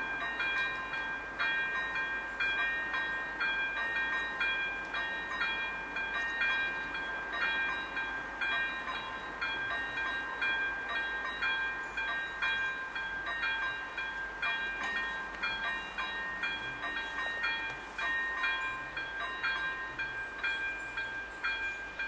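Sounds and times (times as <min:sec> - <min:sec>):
level crossing bell ringing: 0:00.0 - 0:22.0.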